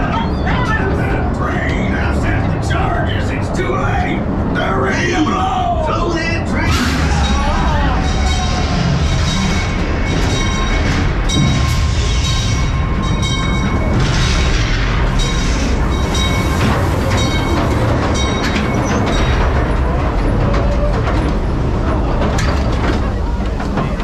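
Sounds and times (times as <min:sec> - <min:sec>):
ore cars rumbling on track: 0:00.0 - 0:24.0.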